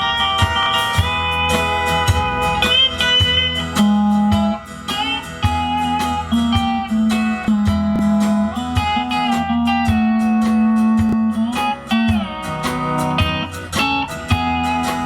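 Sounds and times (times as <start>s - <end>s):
bass: 0.0s - 15.0s
guitar with sliding notes: 0.0s - 15.0s
steady drum beat: 0.0s - 15.0s.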